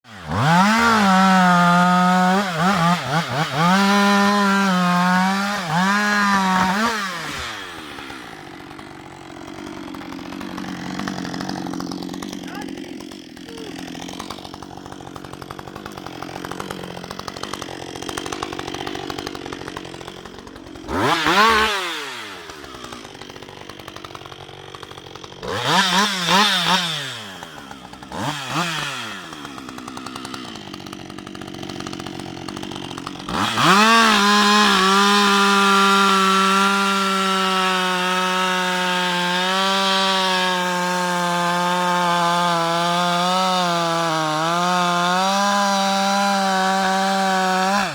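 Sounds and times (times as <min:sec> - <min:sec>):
chainsaw engine revving: 0:00.0 - 0:47.9.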